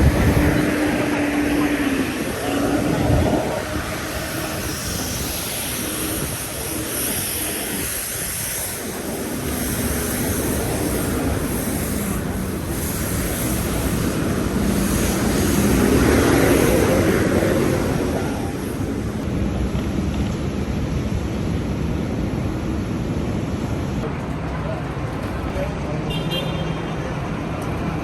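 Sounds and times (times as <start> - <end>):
engine rumble with drone: 0.0 - 26.0.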